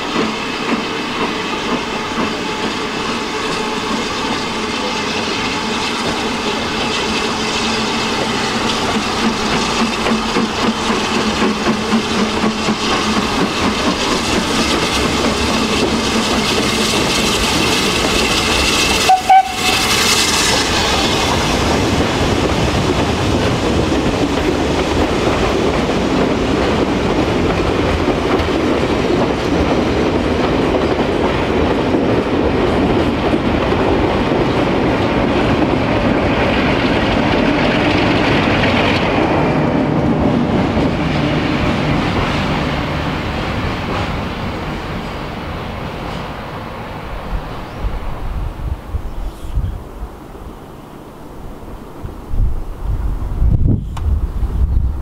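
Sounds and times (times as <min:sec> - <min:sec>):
steam locomotive passing: 0:00.0 - 0:55.0.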